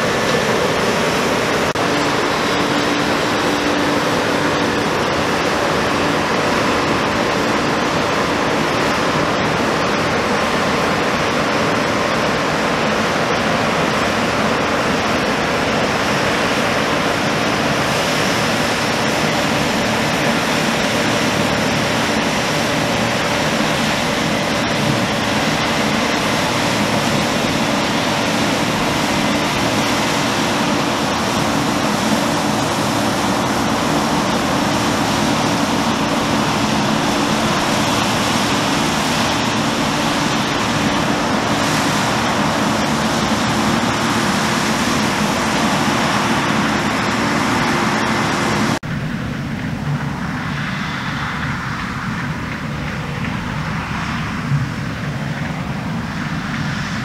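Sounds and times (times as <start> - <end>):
combine harvester working: 0.0 - 57.0.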